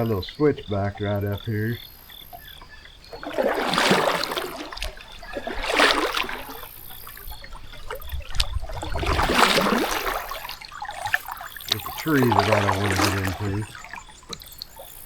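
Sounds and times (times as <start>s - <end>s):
faint cricket chirping: 0.0s - 15.0s
paddle splashing in water: 0.0s - 15.0s.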